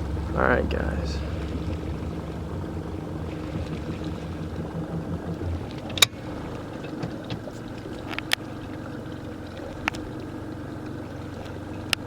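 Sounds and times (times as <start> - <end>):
boat engine hum: 0.0 - 12.0
water noise: 0.0 - 12.0.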